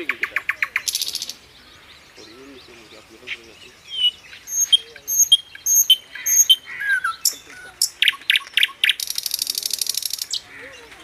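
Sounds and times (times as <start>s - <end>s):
bird trill: 0.0s - 11.0s
birds calling: 0.0s - 11.0s.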